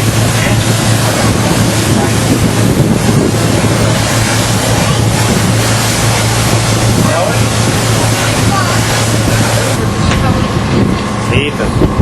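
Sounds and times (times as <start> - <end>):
boat engine drone: 0.0 - 12.0
rushing water: 0.0 - 12.0
wind buffeting microphone: 0.0 - 12.0.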